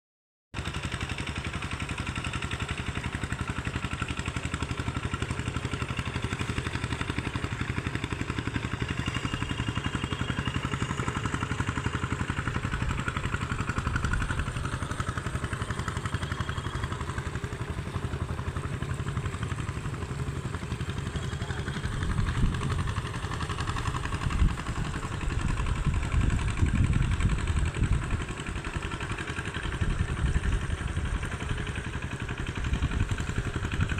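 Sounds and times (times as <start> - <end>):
tractor engine running: 0.6 - 33.9.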